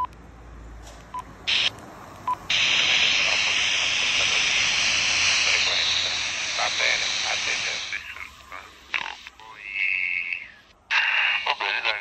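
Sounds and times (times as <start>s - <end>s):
radio receiver hiss: 1.5s - 12.0s.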